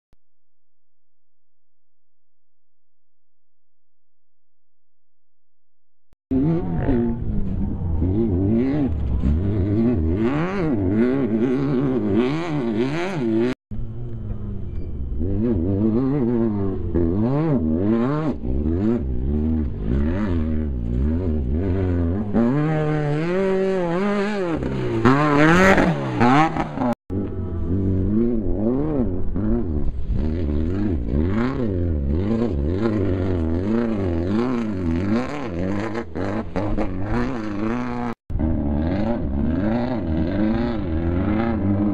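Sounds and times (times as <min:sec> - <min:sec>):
race vehicle engines revving: 0:06.3 - 0:41.9.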